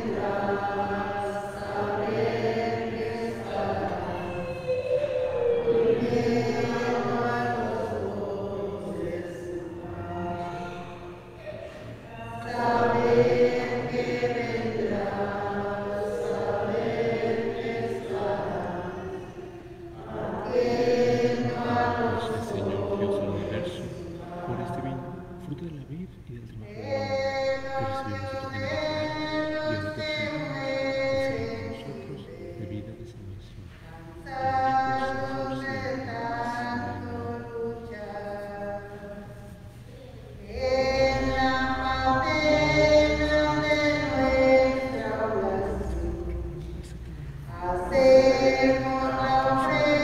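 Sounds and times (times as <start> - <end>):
congregation singing a hymn: 0.0 - 25.9, 26.6 - 50.0.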